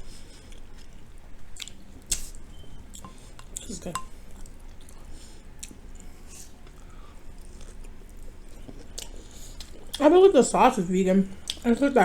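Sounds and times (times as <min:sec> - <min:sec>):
person chewing: 0:00.1 - 0:10.1, 0:11.4 - 0:11.6.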